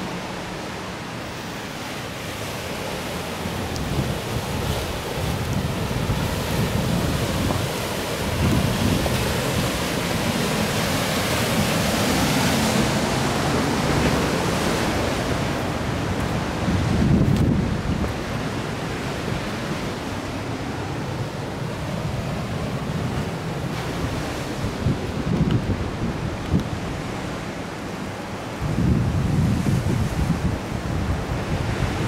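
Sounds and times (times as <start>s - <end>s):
surf breaking on rocky shore: 0.0s - 32.0s
wind buffeting microphone: 3.3s - 32.0s.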